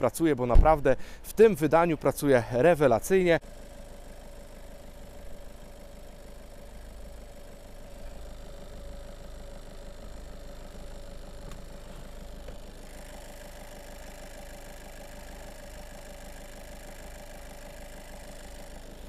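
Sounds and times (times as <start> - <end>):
diesel engine idling: 1.0 - 19.0.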